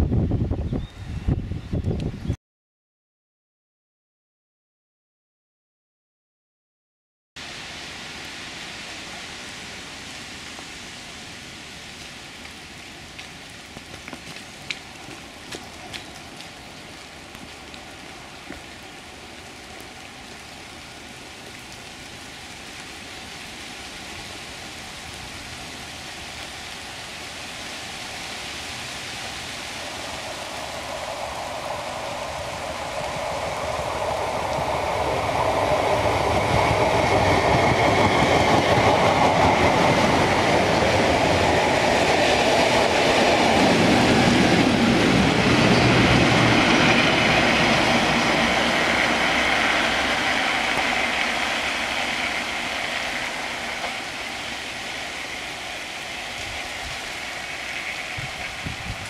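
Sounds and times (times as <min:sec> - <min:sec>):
steady hiss: 0:07.4 - 0:37.3, 0:39.0 - 0:59.0
train approaching: 0:07.8 - 0:59.0.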